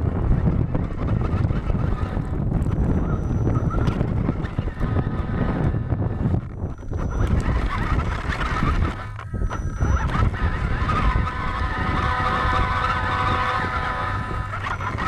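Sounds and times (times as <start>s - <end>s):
rumble and crackle of tyres: 0.0s - 15.0s
toy truck motor whining: 0.2s - 15.0s.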